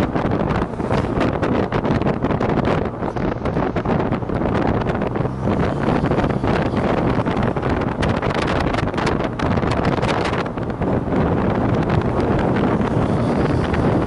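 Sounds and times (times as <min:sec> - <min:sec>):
low engine drone: 0:00.0 - 0:14.0
wind buffeting microphone: 0:00.0 - 0:14.0.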